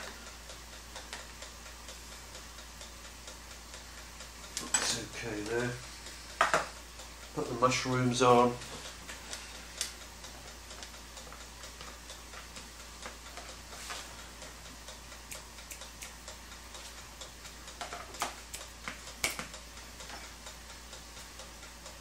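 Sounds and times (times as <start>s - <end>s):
clockwork timer ticking: 0.0s - 22.0s.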